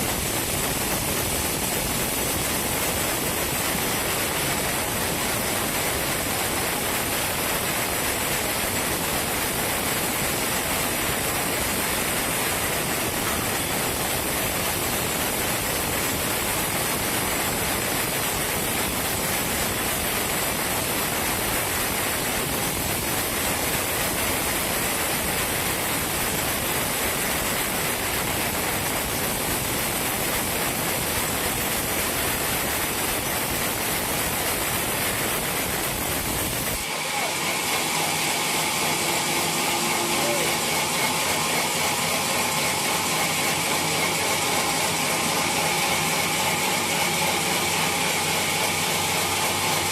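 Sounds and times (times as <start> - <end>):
sawmill saw hissing: 0.0 - 49.9.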